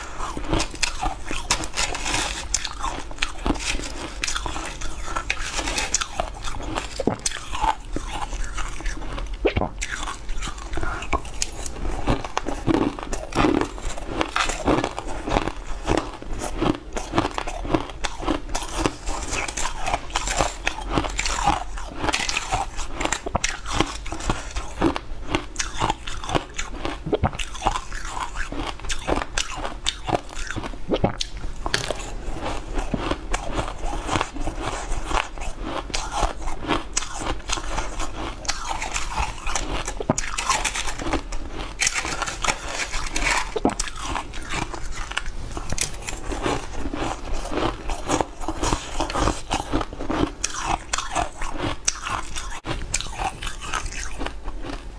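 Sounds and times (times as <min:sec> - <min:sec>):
crunching and chewing shaved ice: 0:00.0 - 0:54.9.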